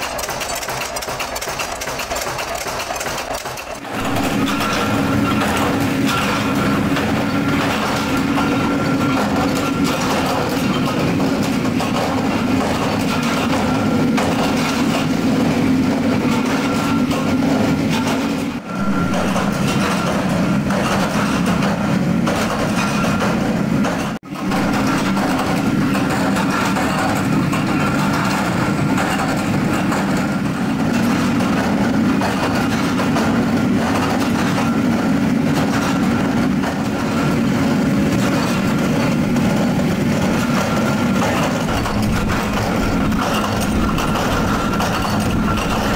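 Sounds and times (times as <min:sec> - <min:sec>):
workshop machinery running: 0:00.0 - 0:45.9.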